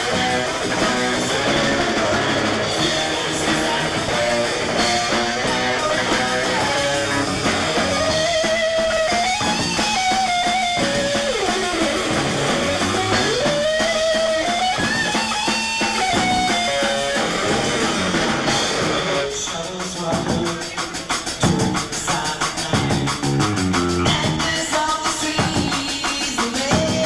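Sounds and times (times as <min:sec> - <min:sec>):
lead electric guitar: 0:00.0 - 0:25.9
bass: 0:00.0 - 0:27.0
drums: 0:00.0 - 0:27.0.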